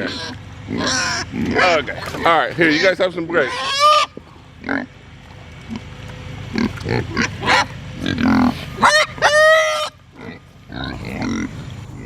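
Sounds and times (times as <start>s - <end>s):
pig squealing: 0.0s - 5.0s, 6.5s - 12.0s
pigs grunting: 0.0s - 12.0s.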